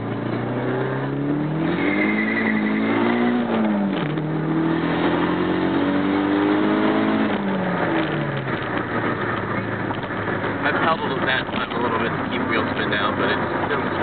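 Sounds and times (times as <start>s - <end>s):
turbocharged car engine accelerating: 0.0s - 14.0s.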